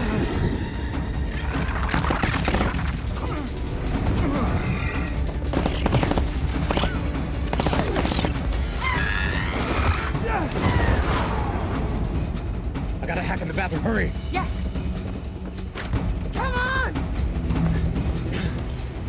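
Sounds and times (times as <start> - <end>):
dramatic score music: 0.0 - 19.0.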